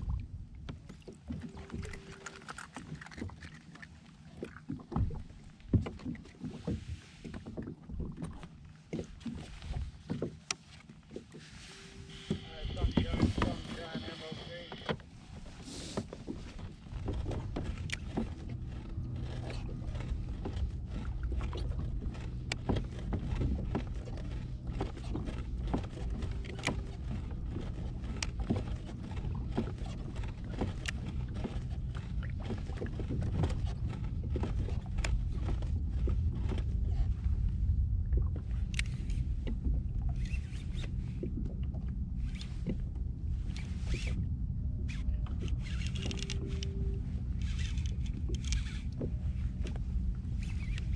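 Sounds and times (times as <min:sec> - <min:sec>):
steady low rumble: 0:00.0 - 0:10.1, 0:12.0 - 0:50.9.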